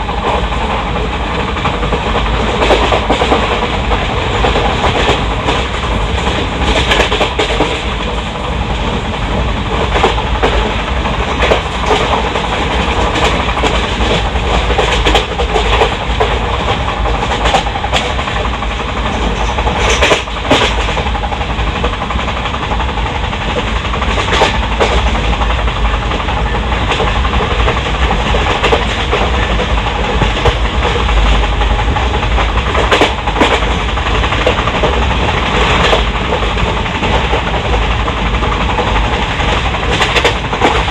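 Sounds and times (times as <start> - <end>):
train wheels rumbling on rails: 0.0 - 40.9
wheels clicking over rail joints: 0.1 - 40.9.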